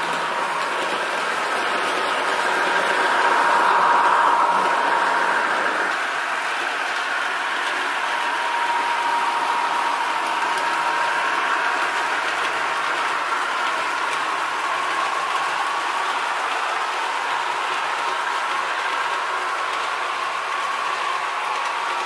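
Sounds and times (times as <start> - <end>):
diesel railcar engine running: 0.0 - 22.0
electric train sound: 0.0 - 22.0
steady whine: 0.0 - 22.0.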